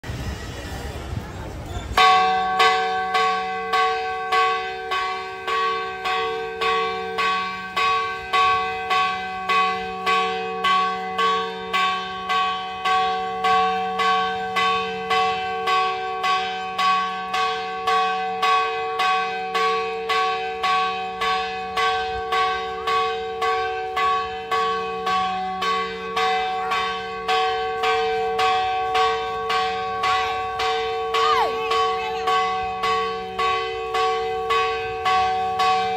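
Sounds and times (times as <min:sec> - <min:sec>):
church bell ringing: 0:01.9 - 0:35.9.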